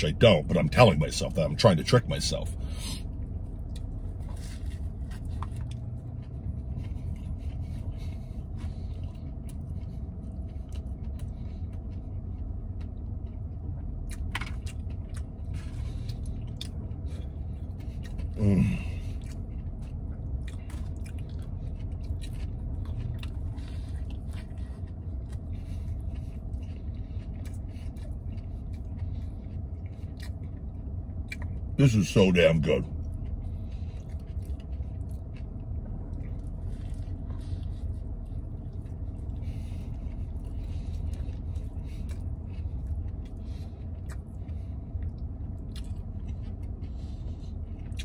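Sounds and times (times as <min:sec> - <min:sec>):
man chewing a sandwich: 0:00.0 - 0:48.0
vehicle cab rumble: 0:00.0 - 0:48.0.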